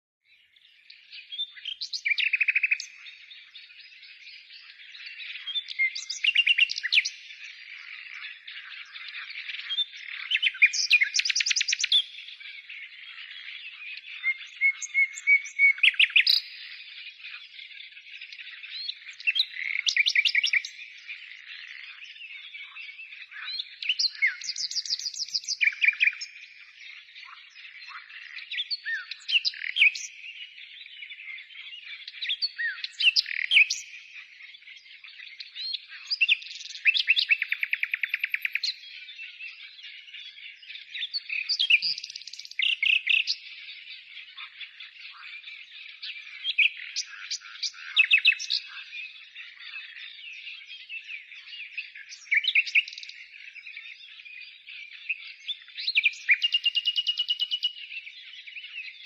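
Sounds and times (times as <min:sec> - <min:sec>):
background birdsong: 0:00.0 - 0:59.0
nightingales singing trills: 0:00.3 - 0:59.0.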